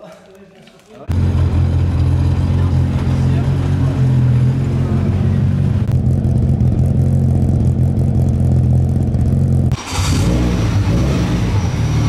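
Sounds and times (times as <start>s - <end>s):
rally car engine idling: 1.1s - 12.0s.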